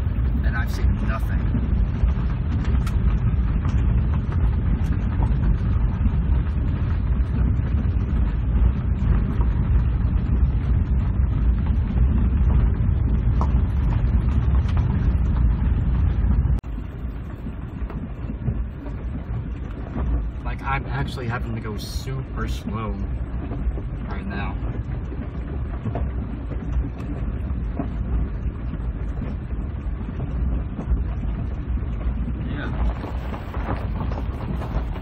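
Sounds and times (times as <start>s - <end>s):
tyres rumbling on gravel: 0.0s - 35.0s.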